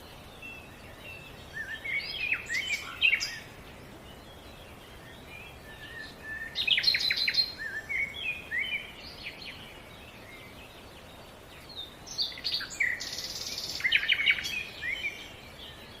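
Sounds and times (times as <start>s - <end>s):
low steady hiss: 0.0s - 16.0s
songbirds chirping and trilling: 0.0s - 16.0s.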